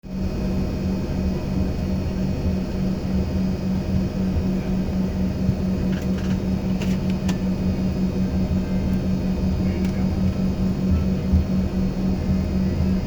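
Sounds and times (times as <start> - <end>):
airliner cabin drone: 0.1 - 13.0.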